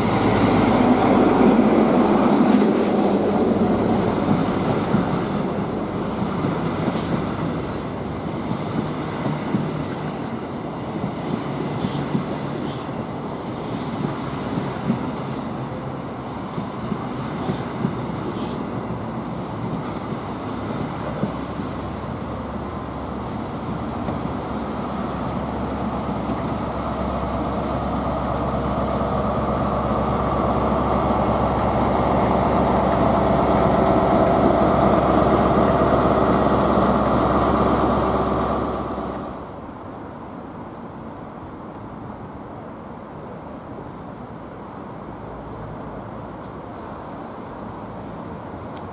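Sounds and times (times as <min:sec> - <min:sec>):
train rumble: 0:00.0 - 0:48.9.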